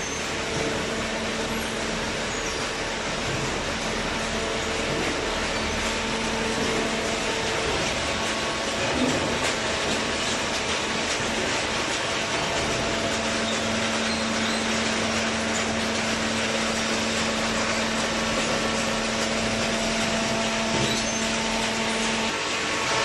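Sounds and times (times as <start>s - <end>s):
hydraulic baler running: 0.0s - 23.0s.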